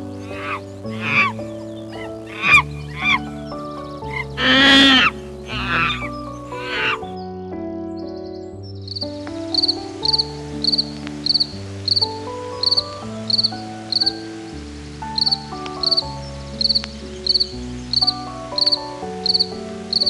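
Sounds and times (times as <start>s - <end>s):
insect chirping: 0.0s - 7.2s, 8.7s - 20.0s
background piano music: 0.0s - 20.0s.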